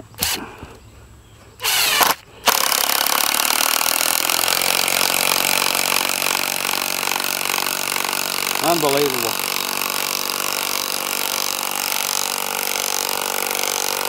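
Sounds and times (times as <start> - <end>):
impact driver hammering buzz: 1.6 - 14.0.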